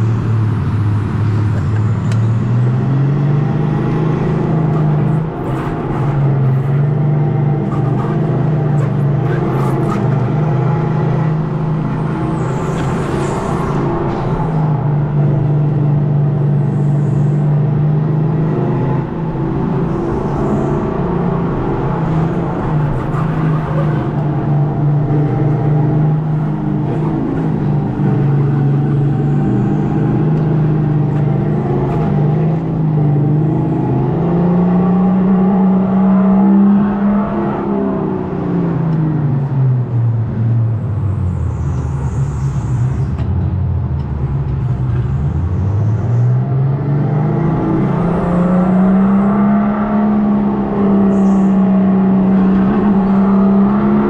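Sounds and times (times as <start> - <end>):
simulated engine sound from speaker: 0.0 - 54.0.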